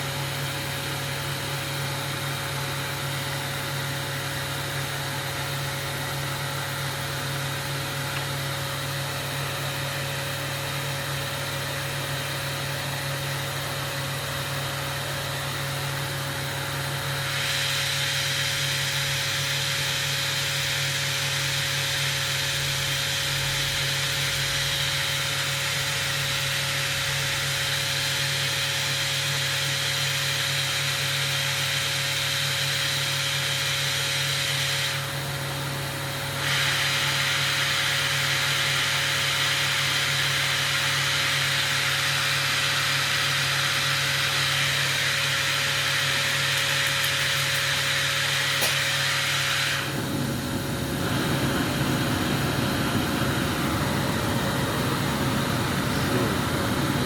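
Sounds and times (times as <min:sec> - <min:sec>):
workshop machinery hum: 0:00.0 - 0:57.0.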